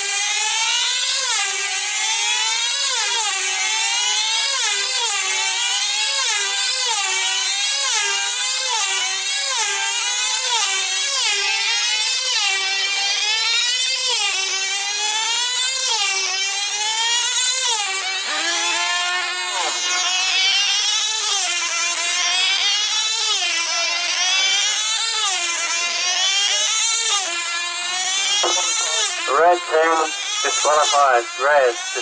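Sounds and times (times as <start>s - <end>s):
model aircraft engines buzzing: 0.0s - 32.0s.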